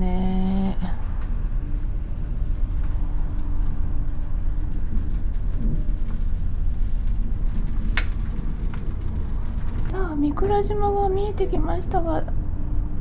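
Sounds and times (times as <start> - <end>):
faint steady hum: 0.0 - 13.0
ship engines rumbling: 0.0 - 13.0.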